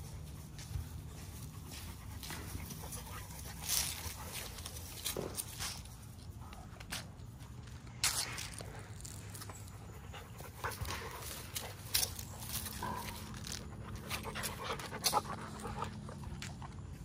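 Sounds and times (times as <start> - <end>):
dogs panting: 0.0 - 17.0
dogs scuffling: 0.0 - 17.0.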